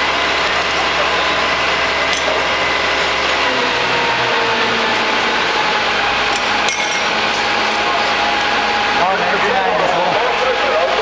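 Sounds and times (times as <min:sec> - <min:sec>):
engine running loudly: 0:00.0 - 0:11.0.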